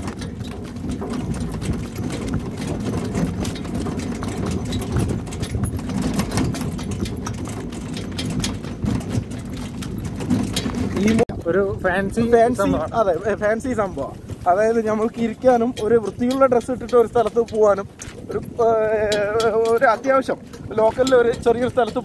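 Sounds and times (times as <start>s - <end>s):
cart rumbling on dirt track: 0.0s - 22.0s
rattle of cart harness and hooves: 0.0s - 22.0s.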